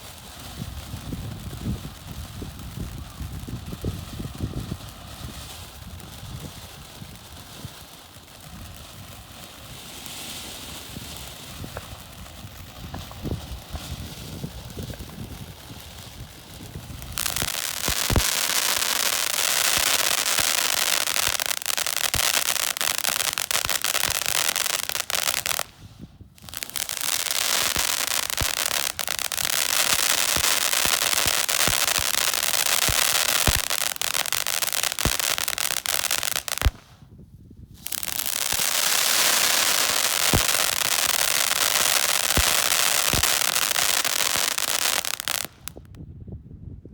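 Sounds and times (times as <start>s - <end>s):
firework fountain hissing: 0.0s - 37.0s, 37.8s - 45.7s.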